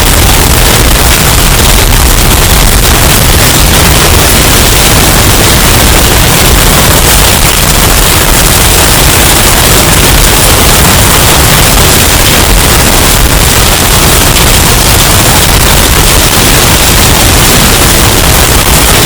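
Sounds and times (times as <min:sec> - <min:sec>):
distorted hurricane wind and rain: 0:00.0 - 0:19.0.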